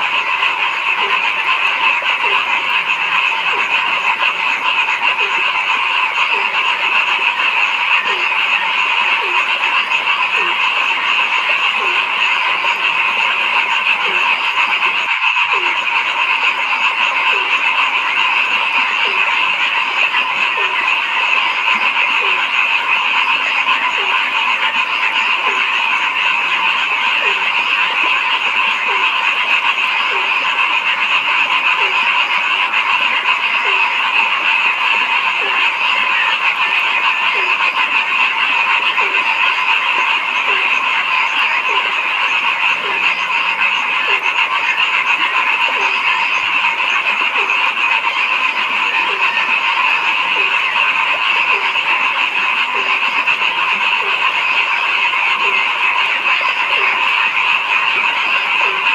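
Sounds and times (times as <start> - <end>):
chorus of frogs calling: 0.0 - 58.9
low-pitched frog croaks: 0.0 - 58.9.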